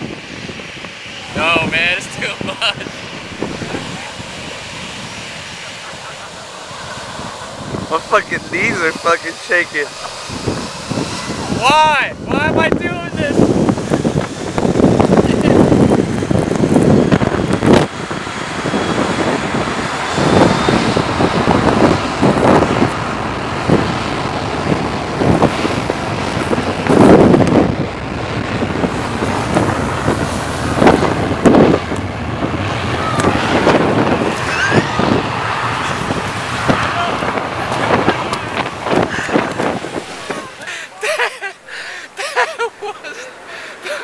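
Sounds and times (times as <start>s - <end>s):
jet engine blast: 0.0s - 41.7s
wind buffeting microphone: 0.0s - 44.0s.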